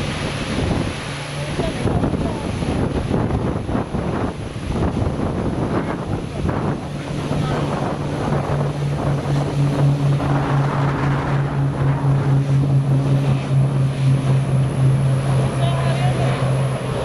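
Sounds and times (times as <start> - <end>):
higher engine tone: 0.0 - 4.2, 5.5 - 17.0
propeller aircraft engines droning: 0.0 - 17.0
wind buffeting microphone: 0.0 - 17.0.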